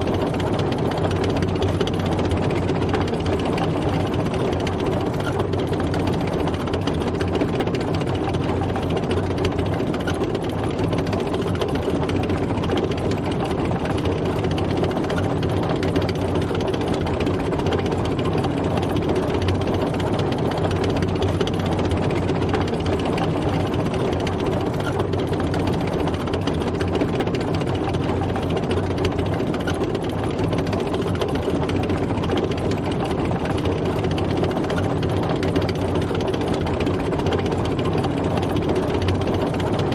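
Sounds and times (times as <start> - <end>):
tank engine running: 0.0 - 39.9.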